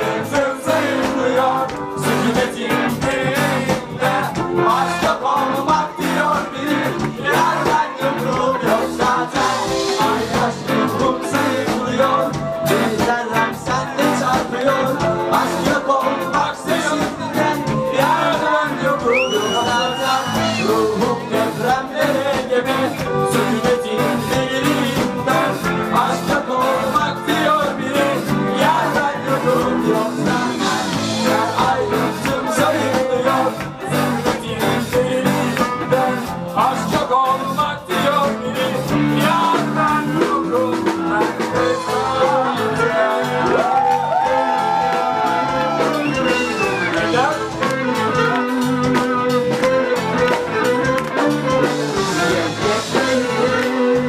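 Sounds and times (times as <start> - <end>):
person singing: 0.0 - 54.0
pop song played by band: 0.0 - 54.0.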